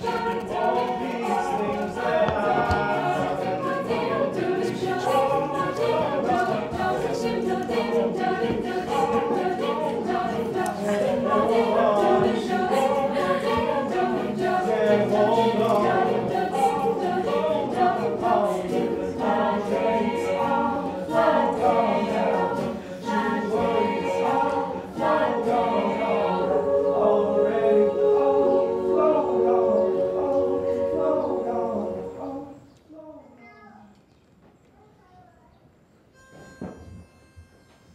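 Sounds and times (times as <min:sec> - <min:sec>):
choir singing in harmony: 0:00.0 - 0:32.8.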